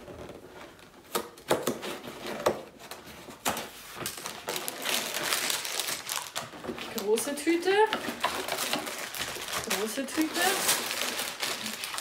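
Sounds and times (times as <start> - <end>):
cardboard and plastic bags rustling: 1.8 - 12.0.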